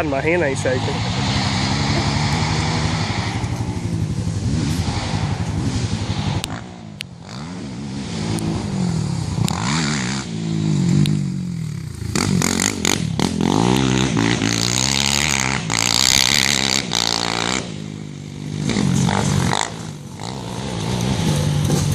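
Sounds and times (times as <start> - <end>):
atv engines revving: 0.0 - 21.9.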